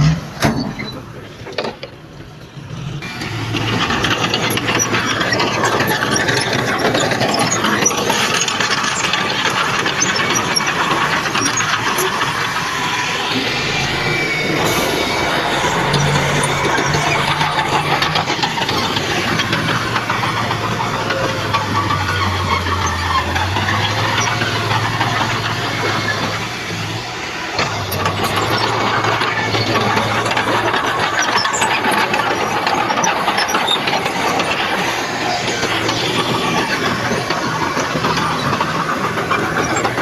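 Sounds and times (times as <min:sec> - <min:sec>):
diesel engine running: 0:00.0 - 0:40.0
steel tracks rattling and clanking: 0:00.0 - 0:40.0.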